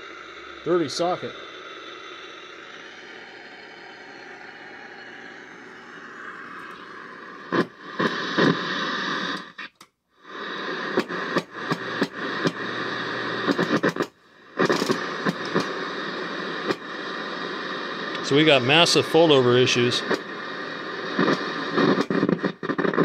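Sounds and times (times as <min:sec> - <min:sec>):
television static hiss: 0:00.0 - 0:23.0
sharp crackles and pops: 0:00.1 - 0:23.0.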